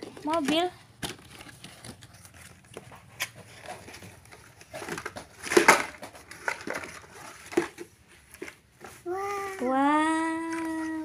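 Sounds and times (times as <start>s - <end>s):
light taps scrapes and rustles: 0.0s - 9.7s.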